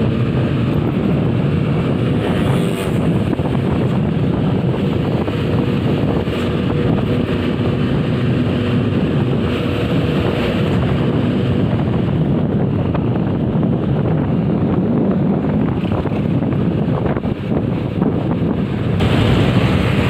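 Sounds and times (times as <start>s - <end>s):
road vehicle running noise: 0.0s - 20.0s
wind rushing over microphone: 0.0s - 20.0s.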